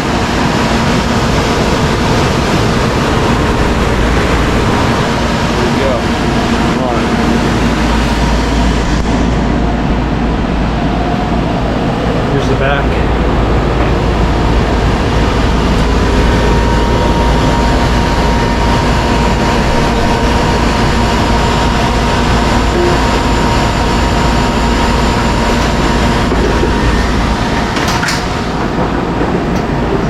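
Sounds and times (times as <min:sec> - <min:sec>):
faint whine: 0:00.0 - 0:30.0
heat pump humming: 0:00.0 - 0:30.0.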